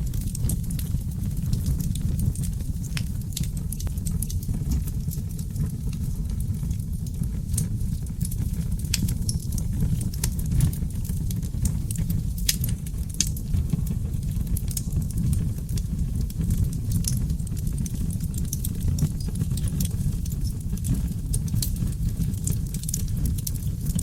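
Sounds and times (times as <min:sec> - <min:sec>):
fire crackles and pops: 0:00.0 - 0:24.0
flames rumbling: 0:00.0 - 0:24.0.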